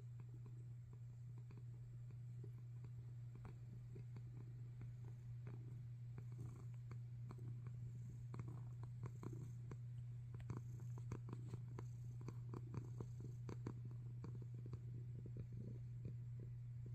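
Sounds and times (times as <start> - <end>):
cats purring: 0.0 - 16.9.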